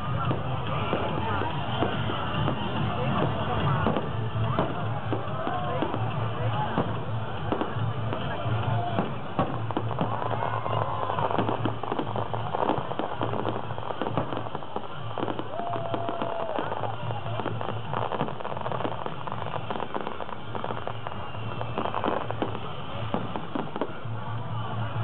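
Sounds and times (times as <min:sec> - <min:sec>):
firework whistle: 0:00.0 - 0:25.0
fireworks crackling and popping: 0:00.0 - 0:25.0.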